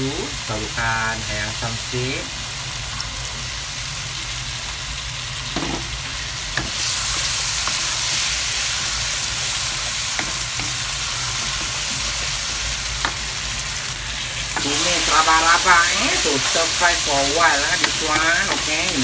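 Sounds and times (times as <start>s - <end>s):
curry paste sizzling in oil: 1.1s - 19.0s.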